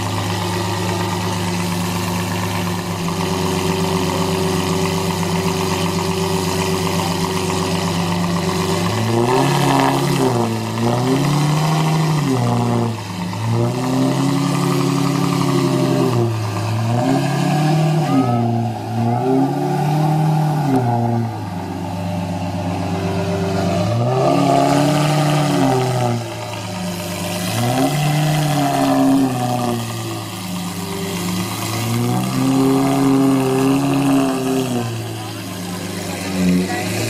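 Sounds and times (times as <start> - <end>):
sports car engine revving: 0.0 - 37.0.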